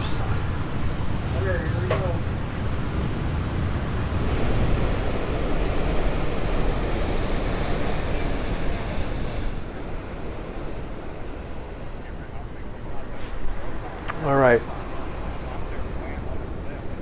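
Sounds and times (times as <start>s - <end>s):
surf breaking roar: 0.0s - 17.0s
wind buffeting microphone: 0.0s - 17.0s.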